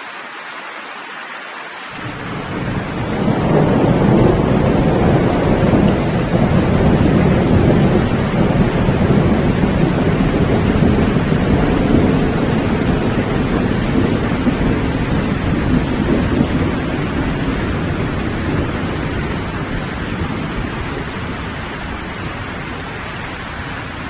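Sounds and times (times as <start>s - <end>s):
steady rain: 0.0s - 24.0s
thunder rumbling: 2.0s - 24.0s.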